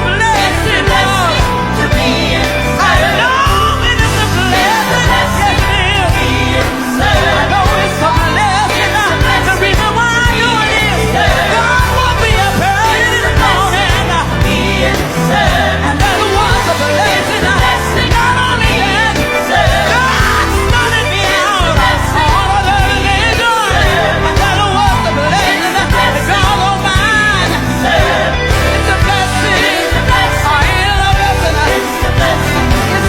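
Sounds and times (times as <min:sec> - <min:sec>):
band accompaniment with bass beat: 0:00.0 - 0:33.0
vocal group singing gospel song: 0:00.0 - 0:33.0.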